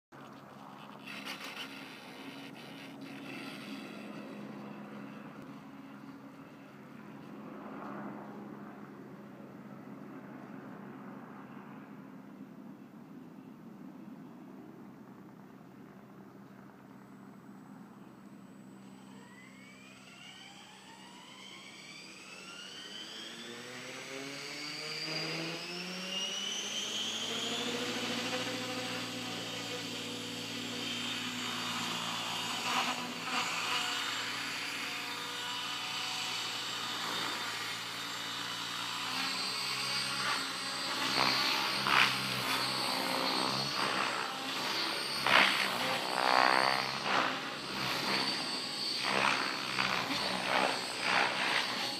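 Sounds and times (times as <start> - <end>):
rc helicopter motor whine: 0.2 - 8.2, 16.9 - 51.9.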